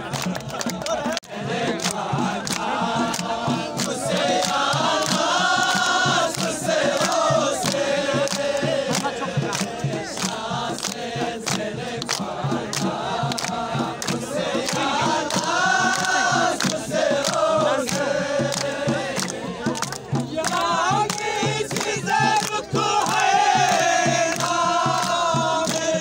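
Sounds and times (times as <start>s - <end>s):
hand clapping: 0.0s - 26.0s
men singing and chanting: 0.0s - 26.0s.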